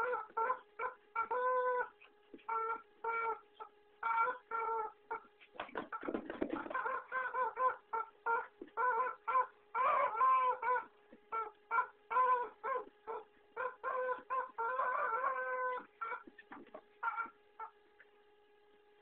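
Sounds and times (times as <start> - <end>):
rubber chicken toy squawking: 0.0 - 5.3, 6.0 - 17.8.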